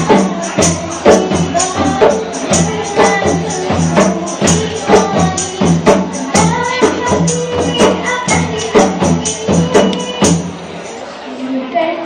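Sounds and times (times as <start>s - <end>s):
hand drum beat: 0.0s - 10.5s
women singing in a group: 0.0s - 10.5s.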